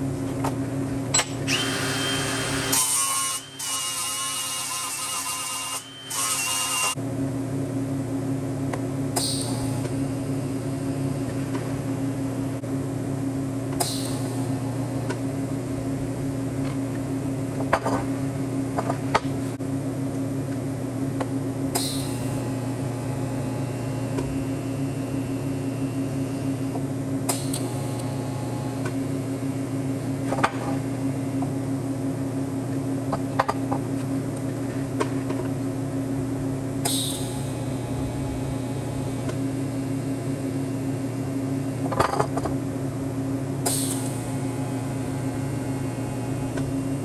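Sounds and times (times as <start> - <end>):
electrical hum: 0.0 - 47.0.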